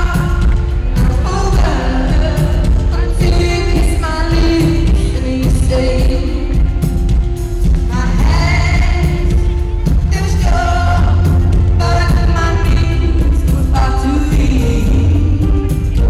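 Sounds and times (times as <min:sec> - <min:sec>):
band with heavy bass: 0:00.0 - 0:16.0
woman singing: 0:00.0 - 0:16.0.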